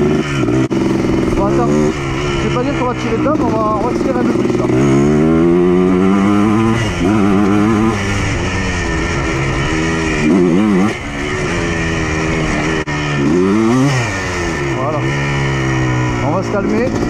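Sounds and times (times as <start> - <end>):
two-stroke quad engine revving: 0.0 - 17.0.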